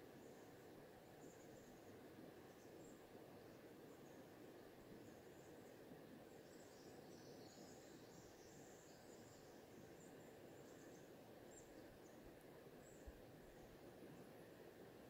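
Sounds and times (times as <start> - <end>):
faint birds chirping: 0.0 - 15.0
gently flowing river water: 0.0 - 15.0.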